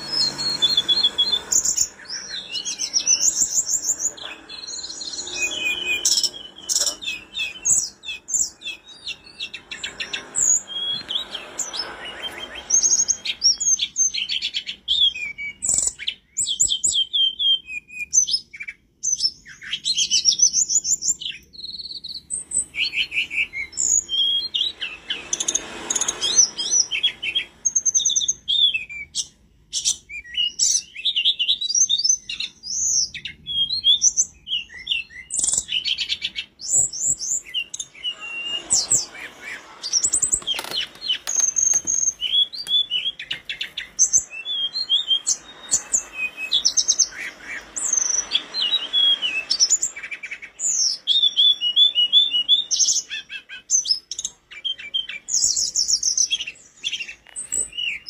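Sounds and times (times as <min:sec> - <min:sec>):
bird singing whistles and trills: 0:00.0 - 0:58.0.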